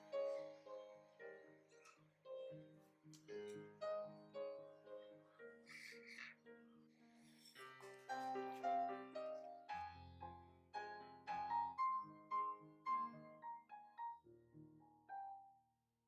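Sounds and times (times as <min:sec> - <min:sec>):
gentle piano melody: 0:00.0 - 0:15.6.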